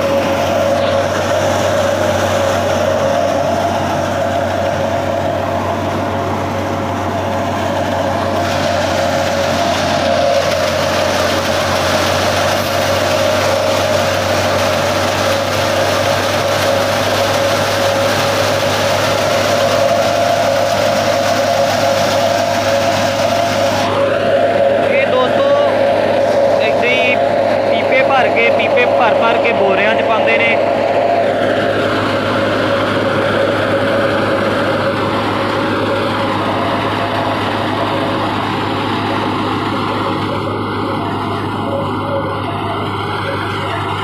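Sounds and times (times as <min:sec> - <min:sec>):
grain pouring from a chute: 0:00.0 - 0:44.0
thresher mechanical drone: 0:00.0 - 0:44.0.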